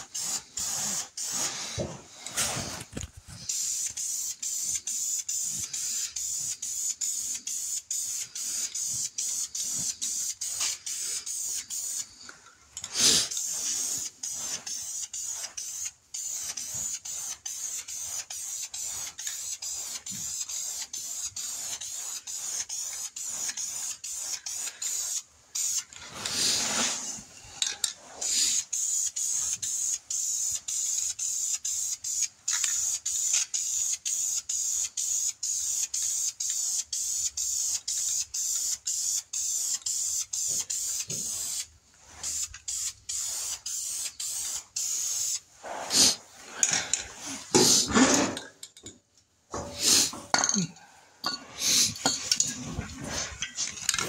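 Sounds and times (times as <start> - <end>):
spray paint can hissing: 0.0 - 12.1, 12.8 - 27.2, 28.1 - 46.2, 51.6 - 53.2.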